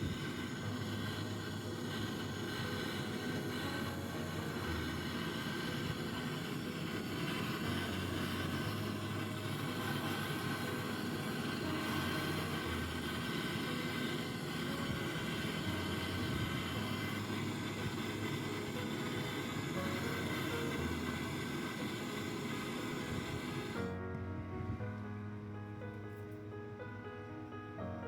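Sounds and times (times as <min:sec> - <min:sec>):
motor running drone: 0:00.0 - 0:24.1.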